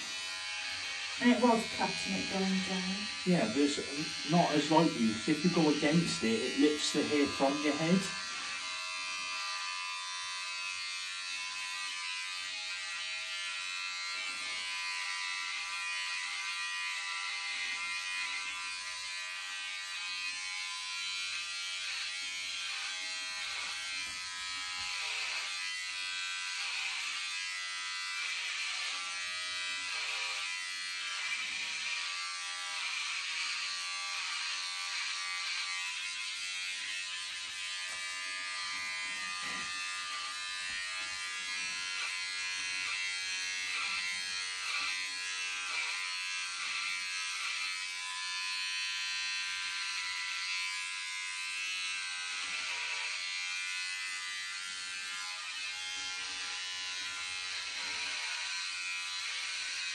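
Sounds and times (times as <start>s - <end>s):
electric hair clippers buzzing: 0.0s - 59.9s.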